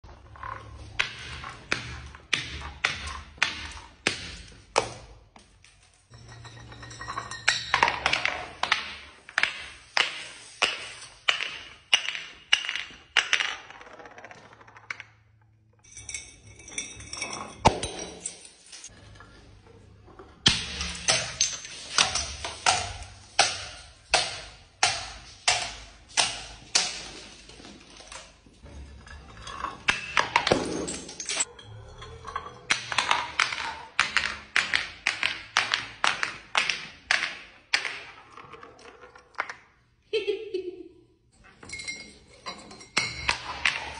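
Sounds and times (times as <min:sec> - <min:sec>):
glass jars tumbling down stairs: 0:00.1 - 0:40.1, 0:41.4 - 0:43.9.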